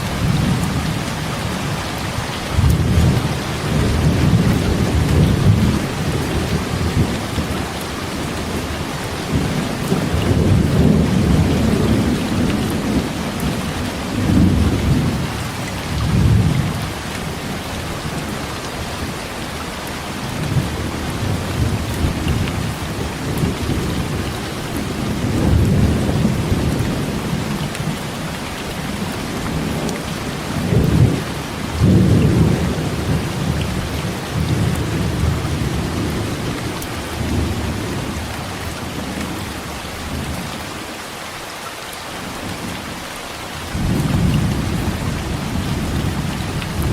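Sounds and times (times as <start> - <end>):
heavy rain: 0.0 - 46.9.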